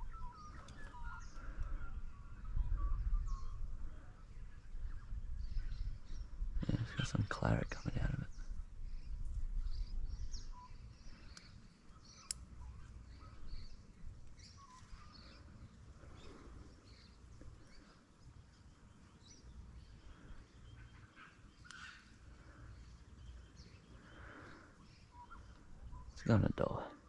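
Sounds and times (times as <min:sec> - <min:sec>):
bird chirps and calls: 0:00.0 - 0:03.6, 0:04.9 - 0:27.0.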